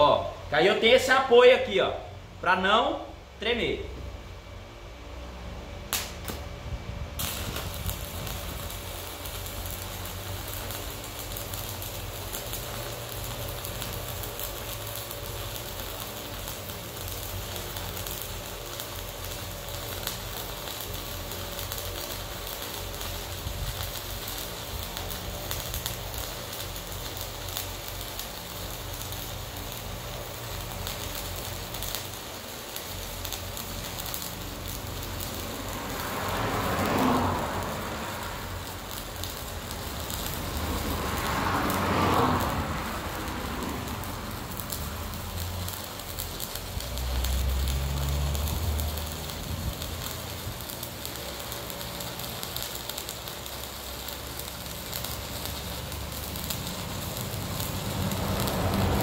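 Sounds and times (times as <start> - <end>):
arc welding crackling sizzle: 0.0 - 59.0.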